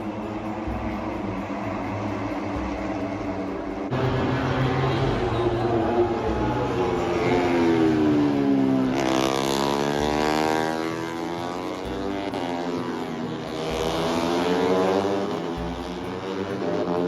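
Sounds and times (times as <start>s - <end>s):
racing motorcycles passing: 0.0s - 17.0s.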